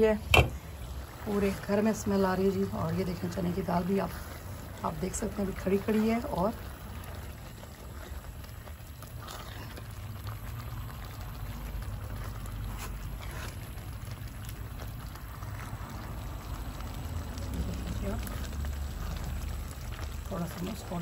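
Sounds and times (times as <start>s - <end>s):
lentils simmering and bubbling: 0.0s - 21.0s
low steady rumble: 0.0s - 21.0s.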